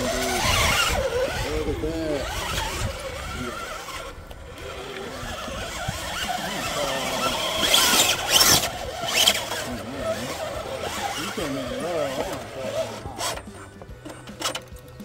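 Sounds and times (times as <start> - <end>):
tyres scraping on rock: 0.0 - 14.8
electric motor whining: 0.0 - 15.0.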